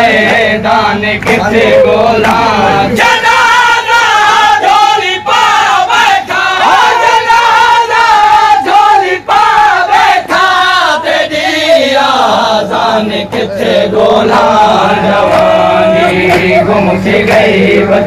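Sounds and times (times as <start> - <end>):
lead reciter chanting: 0.0 - 18.0
men chanting in unison: 0.0 - 18.0.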